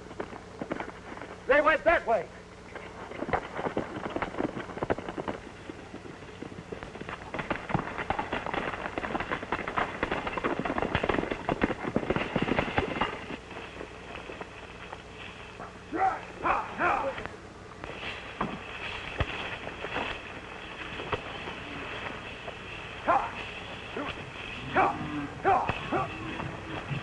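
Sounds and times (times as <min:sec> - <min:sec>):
horses galloping: 0:00.0 - 0:01.8, 0:02.6 - 0:27.0.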